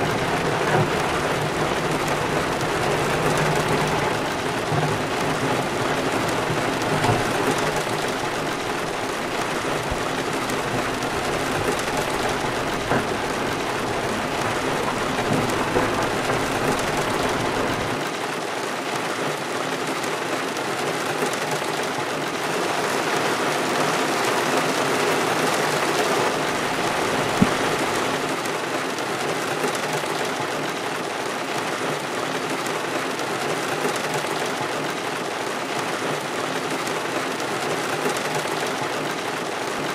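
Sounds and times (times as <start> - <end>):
rain on car roof: 0.0 - 39.9.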